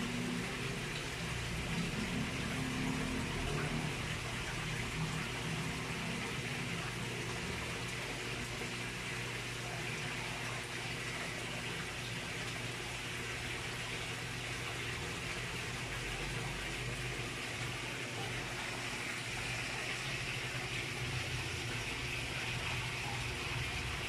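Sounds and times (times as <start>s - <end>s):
water pouring into pond: 0.0s - 24.0s.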